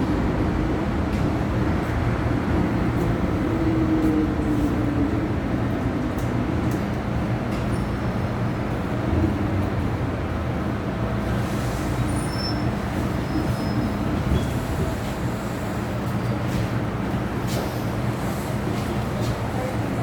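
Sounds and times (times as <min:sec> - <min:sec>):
train cabin rumble and hum: 0:00.0 - 0:20.0.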